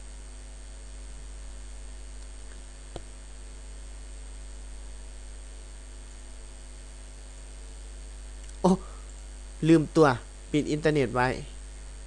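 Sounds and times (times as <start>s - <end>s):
electrical mains hum: 0.0s - 12.0s
faint high whine: 0.0s - 12.0s.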